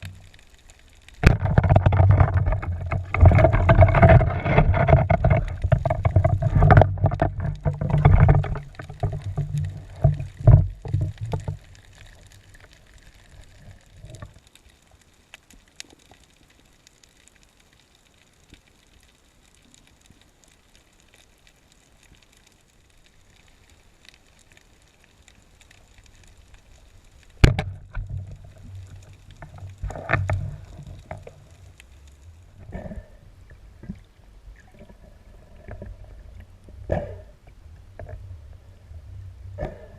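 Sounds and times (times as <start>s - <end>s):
water sloshing and gurgling: 0.0s - 14.8s, 19.0s - 39.9s
faint clicks: 0.0s - 38.2s.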